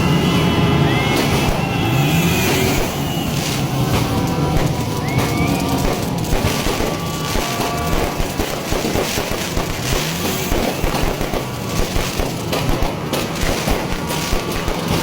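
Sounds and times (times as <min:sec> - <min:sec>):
fireworks cracking and banging: 0:00.9 - 0:15.0.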